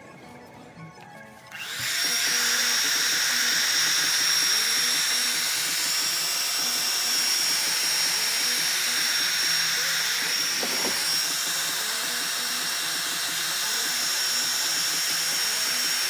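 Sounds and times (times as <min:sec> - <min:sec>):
heat gun fan whining: 0:01.5 - 0:16.0.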